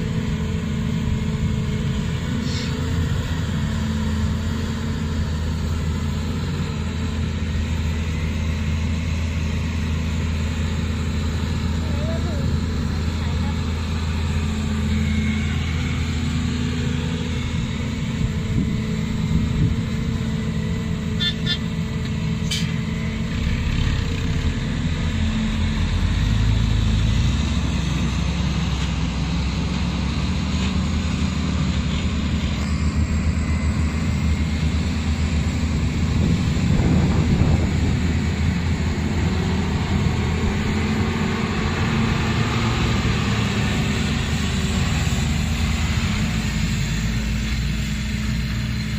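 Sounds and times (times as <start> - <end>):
heavy diesel engines running: 0.0 - 48.9
truck driving up: 0.0 - 48.9
truck pulling away: 0.0 - 48.9.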